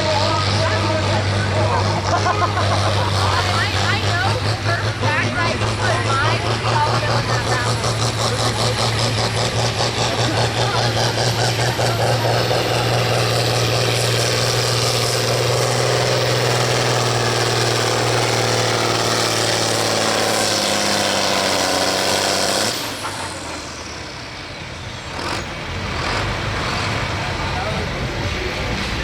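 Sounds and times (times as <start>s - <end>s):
tractor diesel engine running hard: 0.0s - 29.0s.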